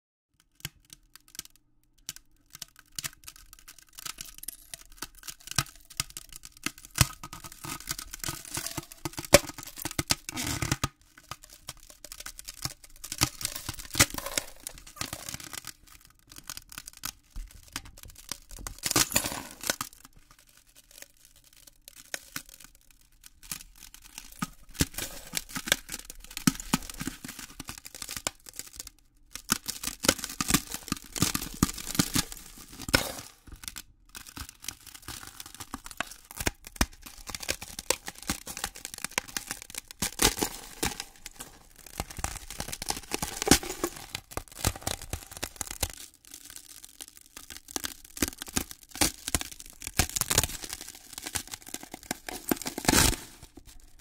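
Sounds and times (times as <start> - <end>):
ice cracking: 2.5 - 54.0.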